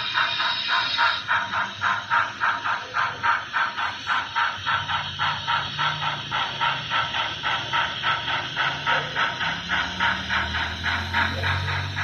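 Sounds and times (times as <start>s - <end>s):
model train rhythmic beat: 0.0s - 12.0s.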